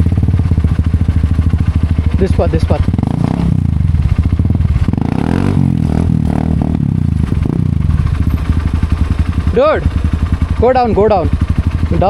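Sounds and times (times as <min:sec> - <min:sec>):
motorcycle clatter: 0:00.0 - 0:12.0
motorcycle engine running: 0:00.0 - 0:12.0.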